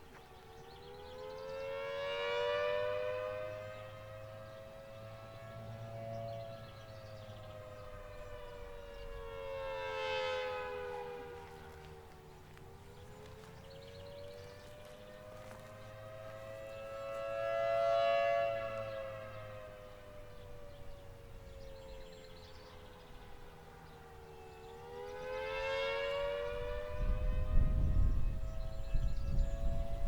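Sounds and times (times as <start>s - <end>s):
warning siren two-note tone: 0.6s - 30.0s.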